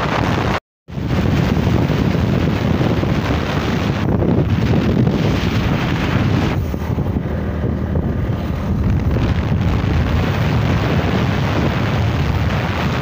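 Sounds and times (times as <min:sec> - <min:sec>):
tyre and road noise: 0:00.0 - 0:13.0
wind buffeting microphone: 0:00.0 - 0:13.0.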